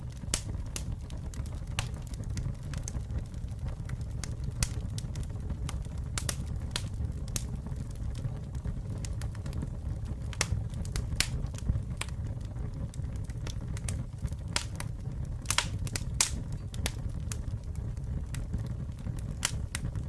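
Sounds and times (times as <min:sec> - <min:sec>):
burning wood crackling and popping: 0:00.0 - 0:20.0
campfire flames rumbling: 0:00.0 - 0:20.0.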